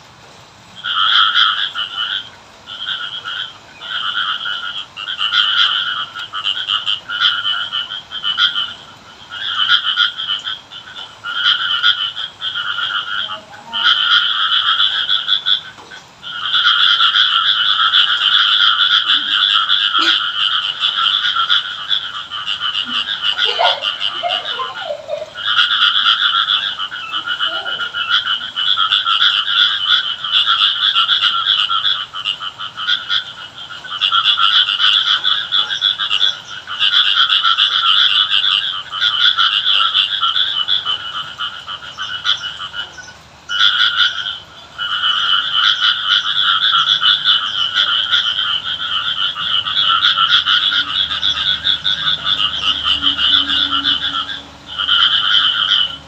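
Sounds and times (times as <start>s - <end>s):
frogs croaking: 0.0s - 56.0s.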